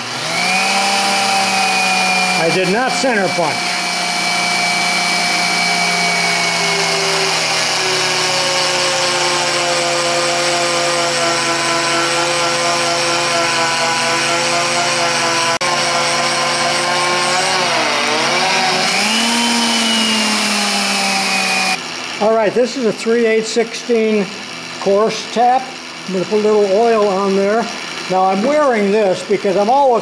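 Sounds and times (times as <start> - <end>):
drill press drilling steel: 0.0 - 30.0.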